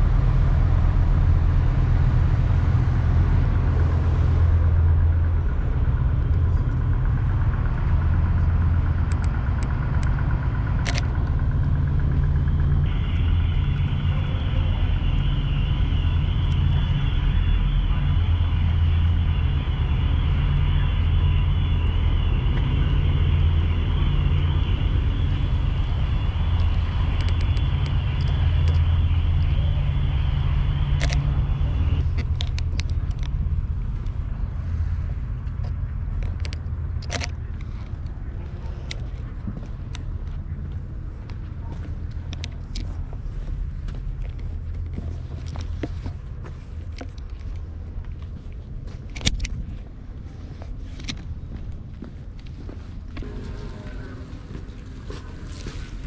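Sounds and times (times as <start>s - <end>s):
steady low waterfront rumble: 0.0s - 56.0s.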